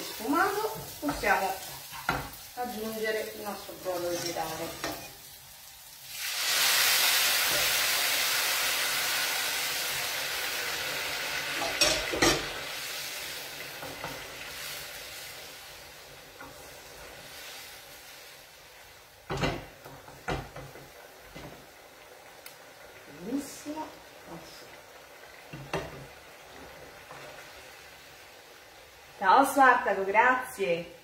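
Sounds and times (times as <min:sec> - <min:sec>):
broth sizzling in a hot pan: 0:00.0 - 0:31.0.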